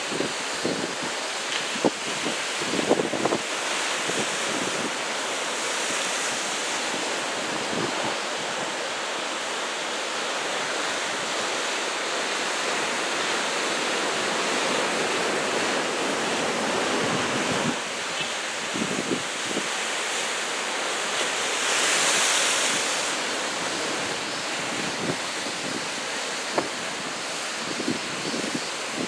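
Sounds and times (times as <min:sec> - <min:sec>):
ocean surf breaking: 0:00.0 - 0:29.0.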